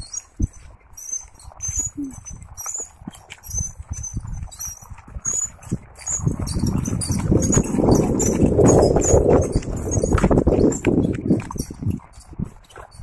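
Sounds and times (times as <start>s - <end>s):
metal wheels rattling over dirt: 0.0s - 13.0s.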